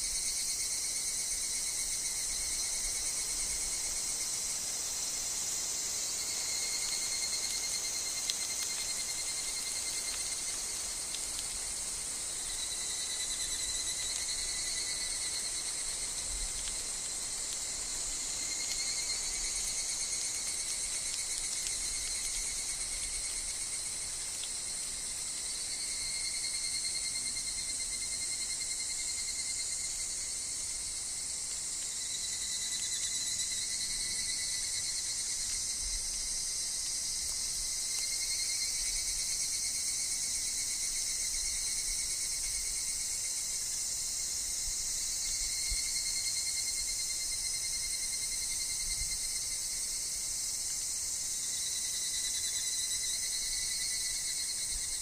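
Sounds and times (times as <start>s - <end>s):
cicada and cricket chorus: 0.0s - 55.0s.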